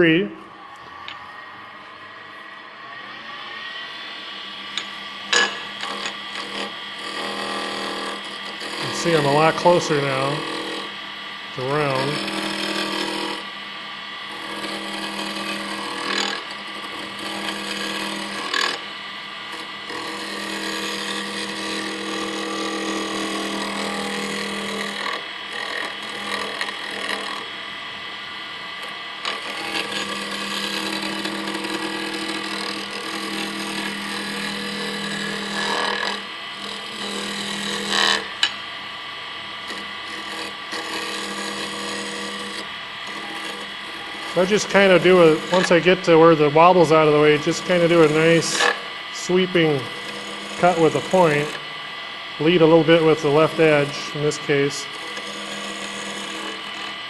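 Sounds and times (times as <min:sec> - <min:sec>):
wood lathe humming: 0:00.0 - 0:57.0
gouge cutting spinning wood: 0:04.3 - 0:57.0.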